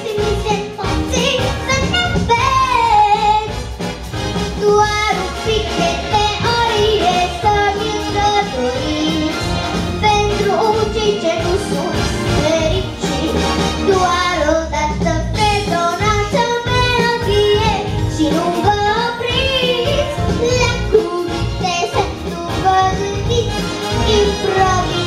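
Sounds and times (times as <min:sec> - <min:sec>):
girl singing into microphone: 0:00.0 - 0:03.5, 0:04.6 - 0:25.0
backing music: 0:00.0 - 0:25.0.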